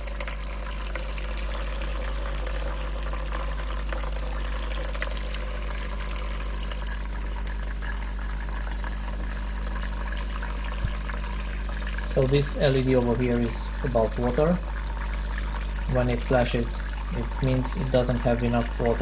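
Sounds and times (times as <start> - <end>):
espresso machine pump humming: 0.0 - 19.0
water running from nozzle: 0.0 - 19.0.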